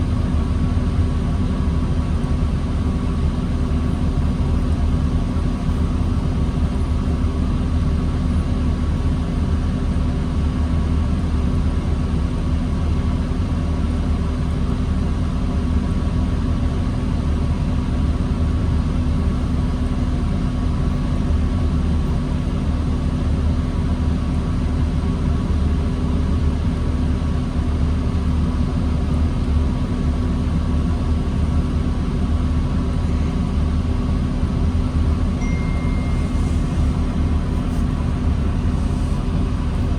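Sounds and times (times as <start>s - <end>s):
bus engine idling: 0.0s - 39.9s.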